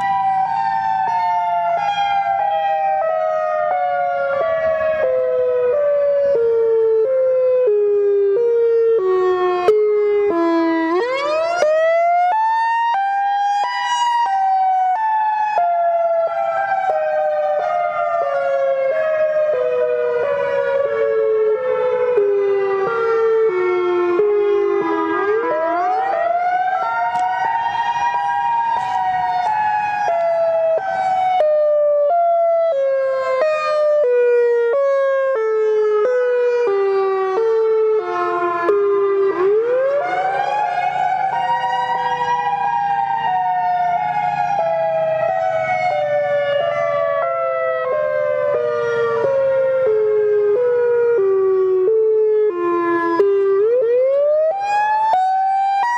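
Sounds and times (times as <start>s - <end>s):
siren-like wailing tone: 0.0s - 55.9s.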